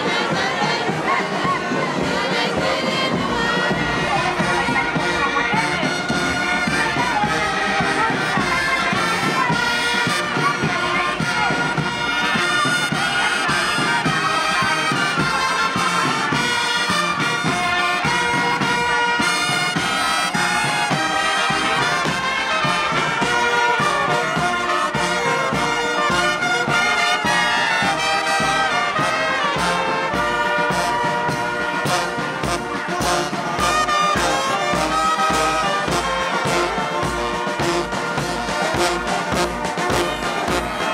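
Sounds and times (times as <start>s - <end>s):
bass and snare drums: 0.0s - 40.9s
marching brass band playing: 0.0s - 40.9s.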